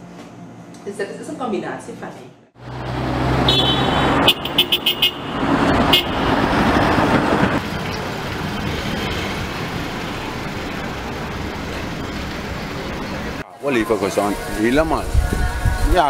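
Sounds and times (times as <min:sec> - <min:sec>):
cars driving on city road: 0:02.5 - 0:15.9.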